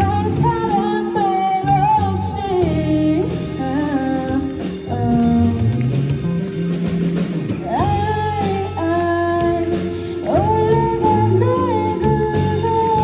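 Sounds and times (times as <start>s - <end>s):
drum kit: 0.0s - 13.0s
electric guitar: 0.0s - 13.0s
woman singing: 0.0s - 13.0s.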